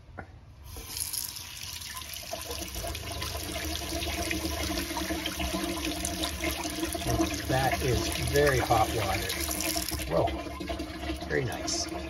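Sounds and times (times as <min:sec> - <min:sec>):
faucet water running into sink: 0:00.7 - 0:12.0
water pump humming: 0:00.7 - 0:12.0.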